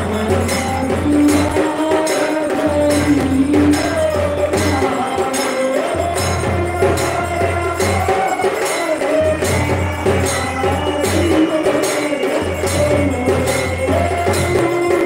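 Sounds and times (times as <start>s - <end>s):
devotional singing: 0.0s - 15.0s
jingling metal percussion: 0.0s - 15.0s.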